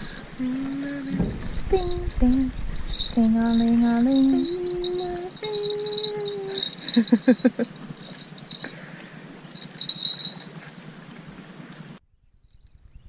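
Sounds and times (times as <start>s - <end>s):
faint high-pitched ringing: 0.0s - 10.8s.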